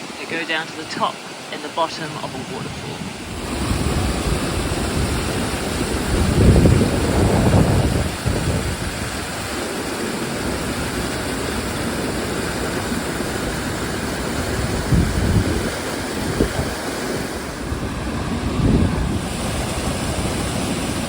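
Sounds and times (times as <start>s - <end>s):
waterfall rushing: 0.0s - 21.0s
wind buffeting microphone: 2.4s - 21.0s.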